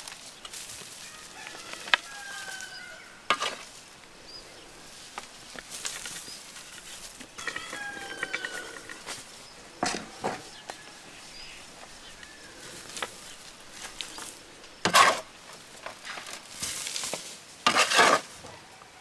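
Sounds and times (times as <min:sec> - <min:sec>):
shovel scraping soil: 0:00.0 - 0:10.7, 0:12.6 - 0:18.4
soil landing: 0:00.0 - 0:18.3.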